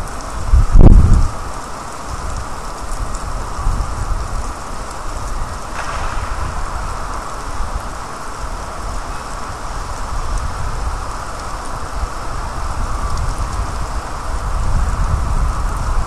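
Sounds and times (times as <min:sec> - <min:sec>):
steady rain falling: 0:00.0 - 0:16.0
wind rumble on microphone: 0:00.0 - 0:16.0.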